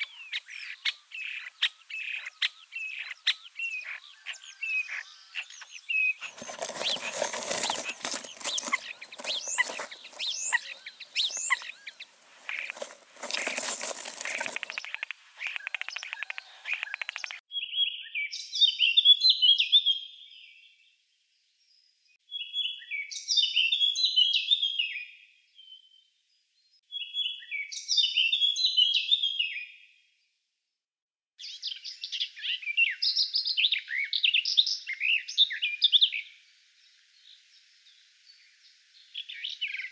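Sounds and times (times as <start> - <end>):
songbirds chirping: 0.0 - 29.9, 31.4 - 39.9.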